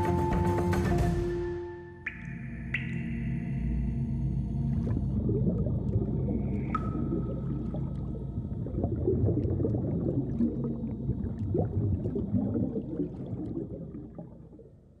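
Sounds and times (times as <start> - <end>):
underwater moving water: 2.0 - 15.0.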